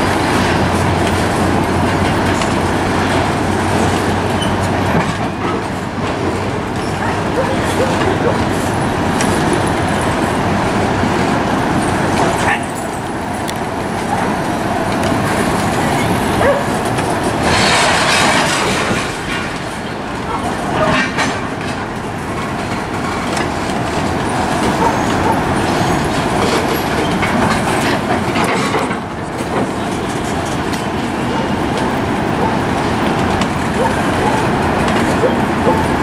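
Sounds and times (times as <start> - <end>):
train wheels clattering on track: 0.0 - 36.0.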